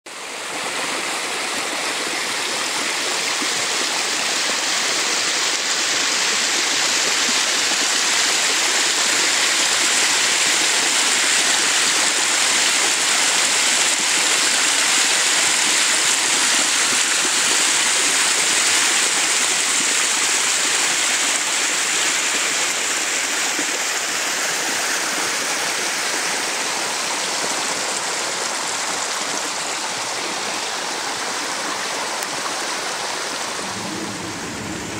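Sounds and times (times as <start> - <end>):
creek water rushing over rocks: 0.1 - 34.9.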